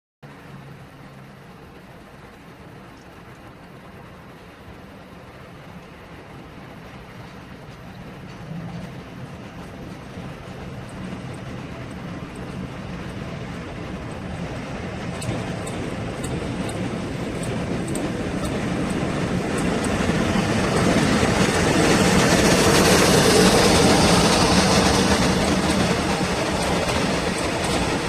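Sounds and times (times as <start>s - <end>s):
train passing rumble: 0.2s - 28.0s.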